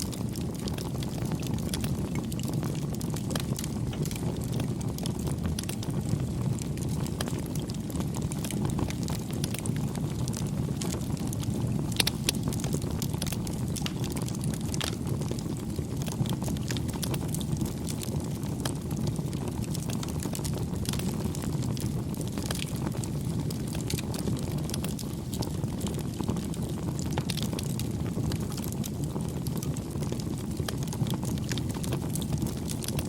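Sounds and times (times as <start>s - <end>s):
campfire flame rumbling: 0.0s - 33.0s
fire crackling and popping: 0.0s - 33.0s.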